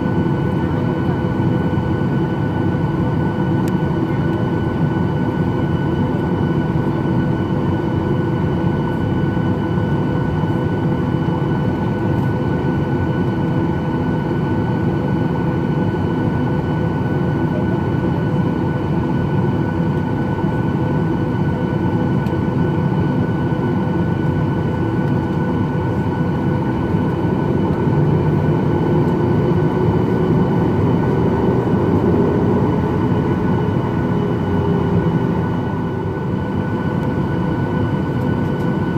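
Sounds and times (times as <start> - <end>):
jet engine cabin hum: 0.0 - 38.9.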